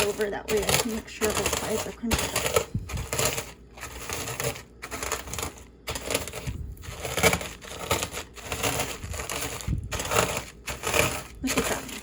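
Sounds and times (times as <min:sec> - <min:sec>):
can rolling: 0:00.0 - 0:12.0
chips crunching in plastic bag: 0:00.0 - 0:12.0.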